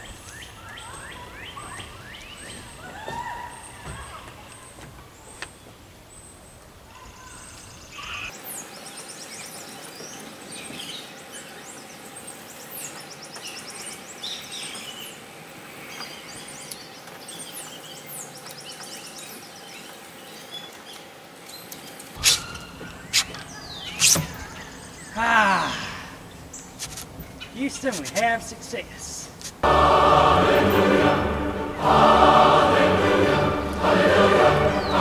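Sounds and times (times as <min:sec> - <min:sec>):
birds chirping and singing: 0:00.0 - 0:28.6, 0:34.4 - 0:35.0
outdoor background noise: 0:00.0 - 0:35.0.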